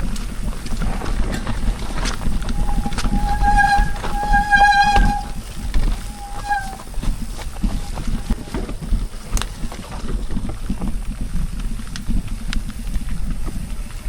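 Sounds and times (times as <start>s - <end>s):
bike rolling on dirt trail: 0.0s - 14.0s
rattles and clicks: 0.0s - 14.0s.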